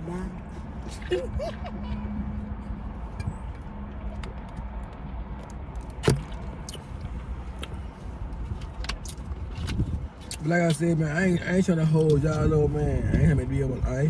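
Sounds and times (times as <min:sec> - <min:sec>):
car idling: 0:00.0 - 0:13.0.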